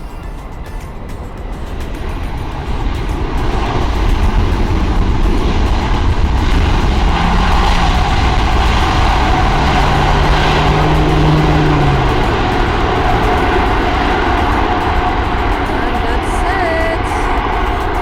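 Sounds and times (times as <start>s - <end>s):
jet engines rumbling: 0.0s - 18.0s
low hum: 0.0s - 18.0s.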